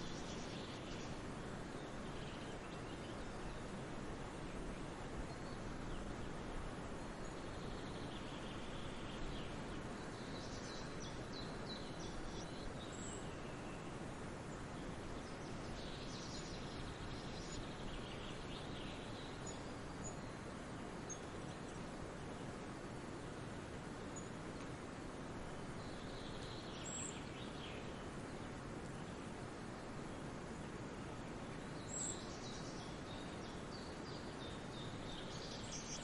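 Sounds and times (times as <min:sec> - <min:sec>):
forest birds singing: 0:00.0 - 0:36.0.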